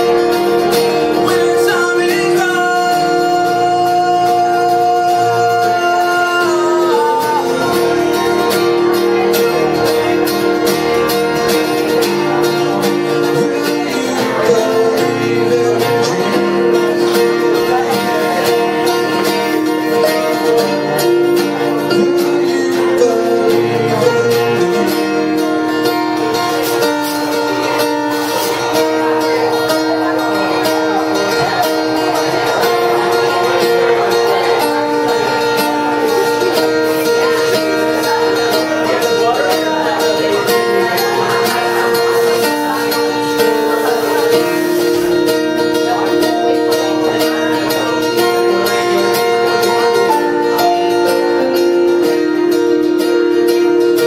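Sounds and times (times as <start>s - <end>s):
electric keyboard chords: 0.0s - 54.0s
strummed acoustic guitar: 0.0s - 54.0s.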